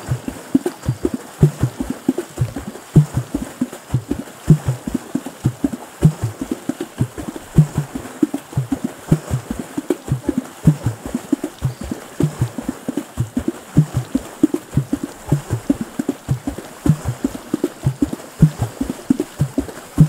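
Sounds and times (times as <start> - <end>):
hands drumming on water: 0.0 - 20.0.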